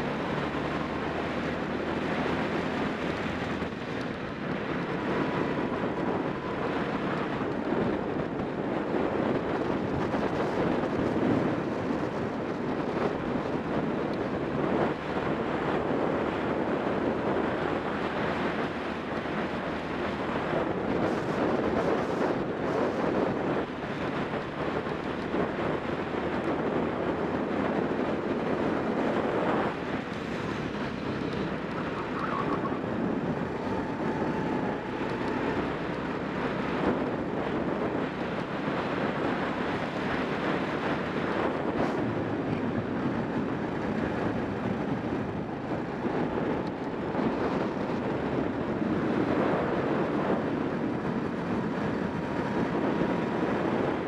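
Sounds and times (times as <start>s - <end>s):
go-kart engine running: 0.0s - 54.0s
wind rush over microphone: 0.0s - 54.0s.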